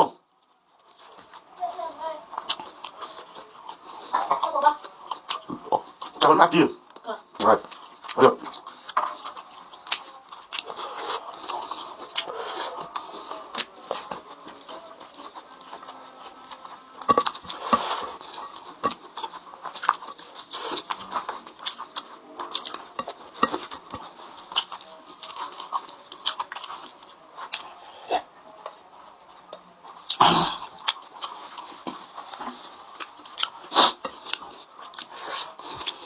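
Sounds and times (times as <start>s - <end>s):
chewing: 0.0s - 36.0s.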